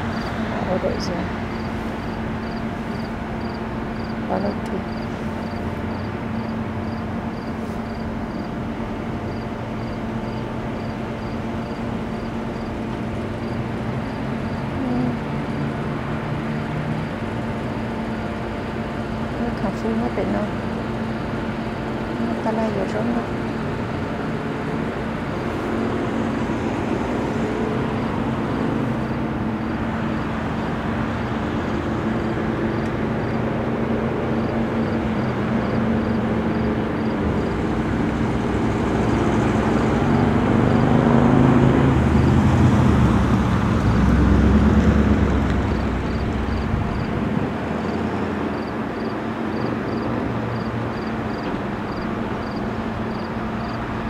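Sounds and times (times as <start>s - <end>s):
car engine and tyre noise: 0.0s - 19.4s, 23.3s - 54.0s.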